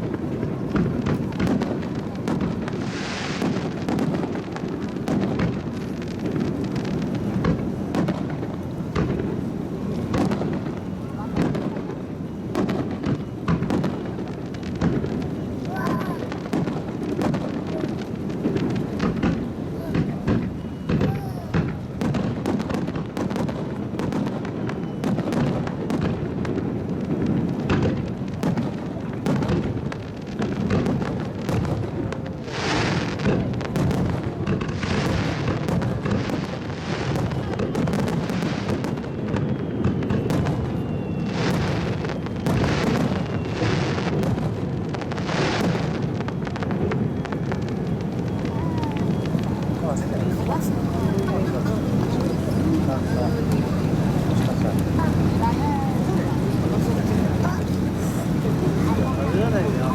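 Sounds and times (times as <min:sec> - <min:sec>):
firework booms and bangs: 0:00.0 - 0:59.9
firework hissing crackles: 0:00.0 - 0:59.9.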